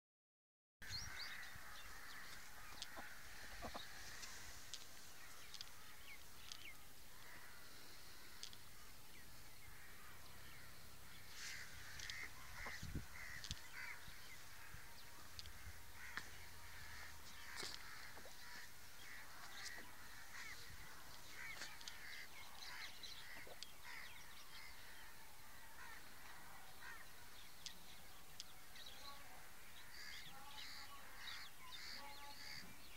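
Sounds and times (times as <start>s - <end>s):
birds calling and chirping: 0.8s - 32.9s
steady outdoor hiss: 0.8s - 32.9s.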